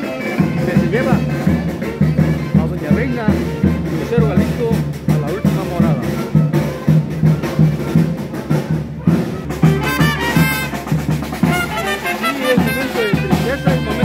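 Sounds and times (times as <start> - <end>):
saxophones and trumpet: 0.0 - 14.0
snare drum: 0.0 - 14.0
bass drum: 0.4 - 14.0.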